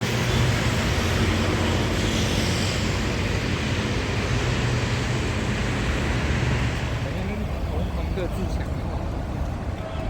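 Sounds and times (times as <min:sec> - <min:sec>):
vehicle engine low hum: 0:00.0 - 0:09.9.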